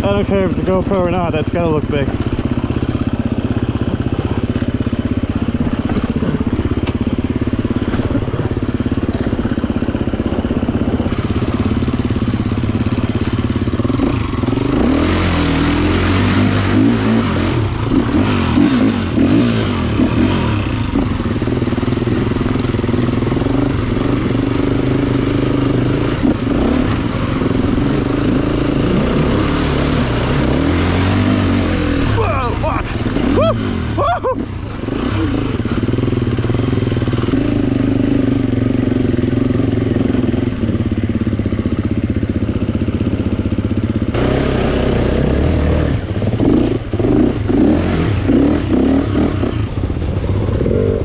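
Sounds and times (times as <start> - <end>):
dirt bike engine running: 0.0 - 51.0.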